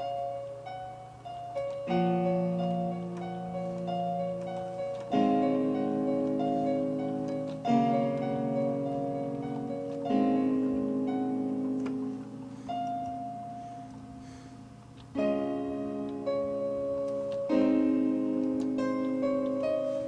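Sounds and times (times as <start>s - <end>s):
digital piano playing: 0.0s - 20.0s.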